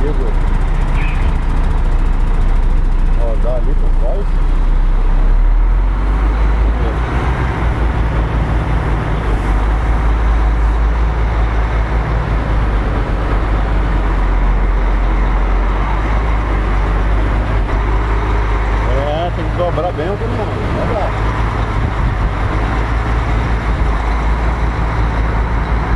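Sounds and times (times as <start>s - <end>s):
truck diesel engine running: 0.0s - 25.9s.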